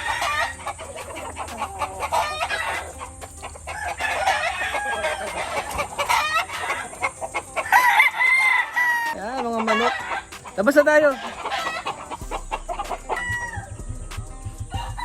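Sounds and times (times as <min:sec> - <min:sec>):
rooster crowing: 0:00.0 - 0:13.8, 0:14.7 - 0:15.0
chickens clucking: 0:00.0 - 0:15.0.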